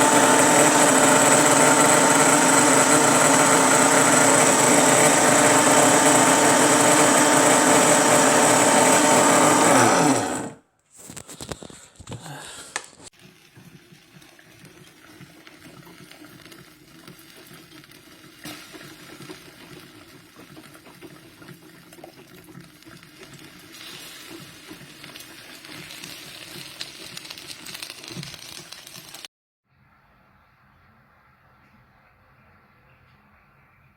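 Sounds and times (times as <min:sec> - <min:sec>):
coffee machine gurgling and hissing: 0:00.0 - 0:11.6, 0:13.1 - 0:29.3.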